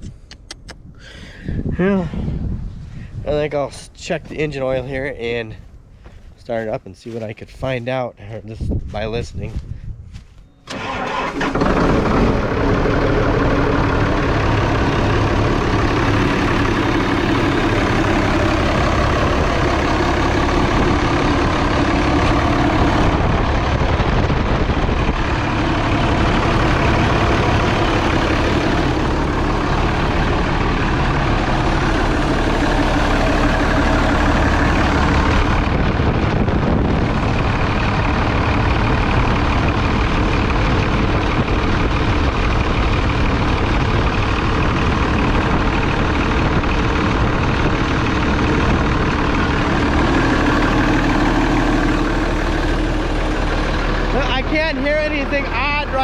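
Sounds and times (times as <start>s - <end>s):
tractor diesel engine starting: 10.6s - 56.0s
tractor engine idling: 10.6s - 56.0s.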